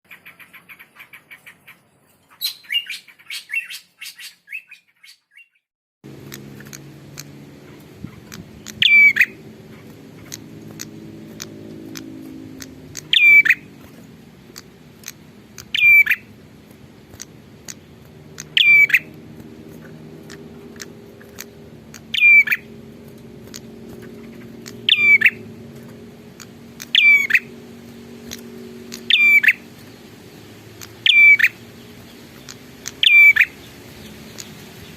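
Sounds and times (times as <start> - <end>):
bird chirping rapidly: 0.1 - 34.9
low steady hum: 6.1 - 34.9.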